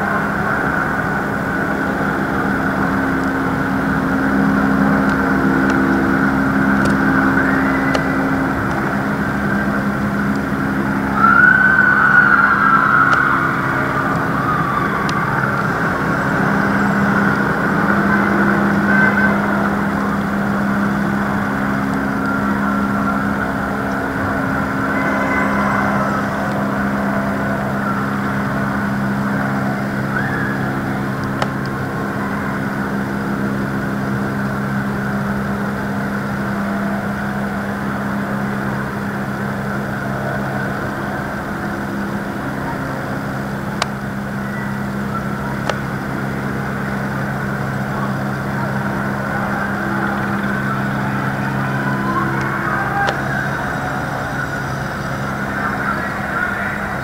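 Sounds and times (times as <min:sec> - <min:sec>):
wavering siren-like tone: 0:00.0 - 0:35.2, 0:44.2 - 0:57.0
engine humming steadily: 0:00.0 - 0:57.0.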